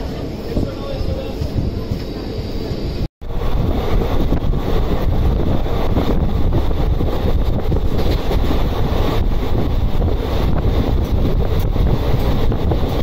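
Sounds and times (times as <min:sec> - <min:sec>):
train wheels rumbling on track: 0:00.0 - 0:13.0
wind buffeting microphone: 0:00.0 - 0:13.0.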